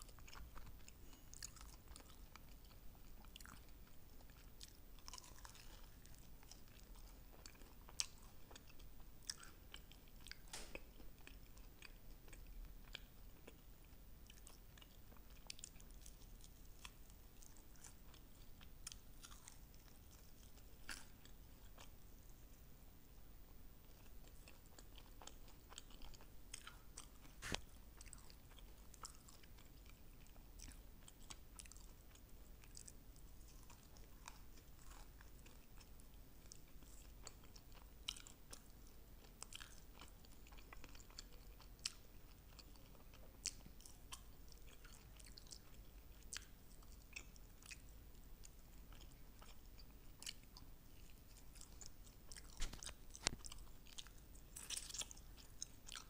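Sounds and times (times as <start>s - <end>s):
crisp chewing crunches: 0.0s - 22.0s, 23.8s - 56.0s.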